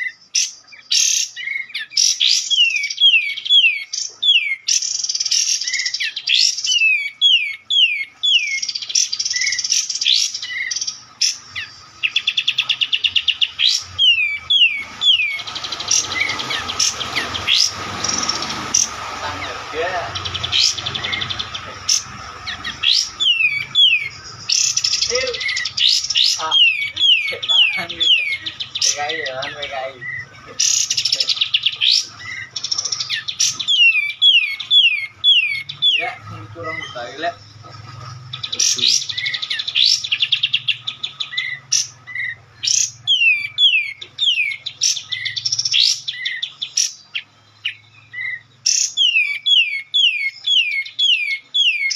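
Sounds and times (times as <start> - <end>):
birds chirping and singing: 0.0 - 51.9.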